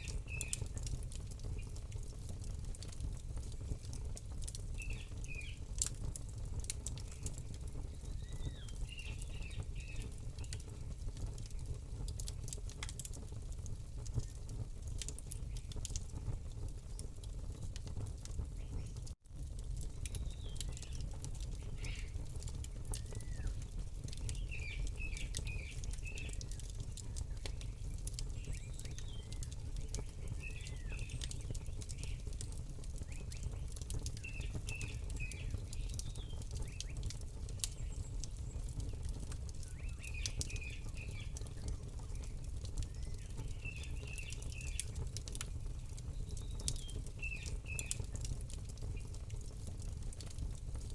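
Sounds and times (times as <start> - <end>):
small birds chirping: 0.0 - 6.0, 6.6 - 13.3, 14.1 - 16.0, 18.4 - 19.1, 19.8 - 49.3
campfire crackling and popping: 0.0 - 50.9.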